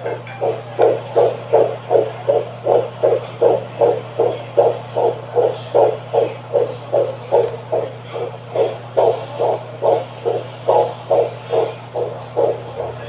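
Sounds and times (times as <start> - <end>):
fetal heartbeat whooshing pulses: 0.0 - 13.0
steady low hum: 0.0 - 13.0.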